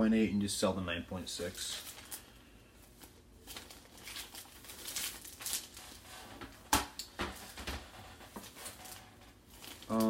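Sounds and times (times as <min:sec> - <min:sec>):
plastic bag crinkling: 0:01.3 - 0:10.0.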